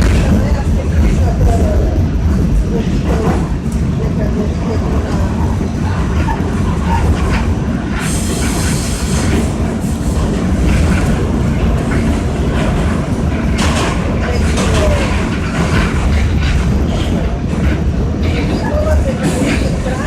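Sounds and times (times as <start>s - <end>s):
subway car rumble: 0.0s - 20.0s
wheels clicking and clattering: 2.2s - 20.0s.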